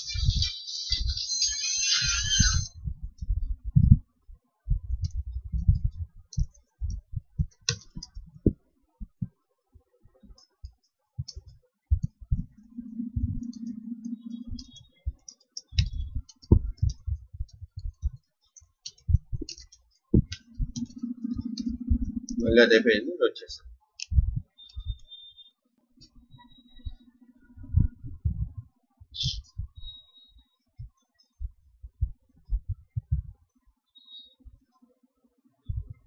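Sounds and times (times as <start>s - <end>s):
low steady hum: 2.0s - 34.8s, 35.4s - 36.0s.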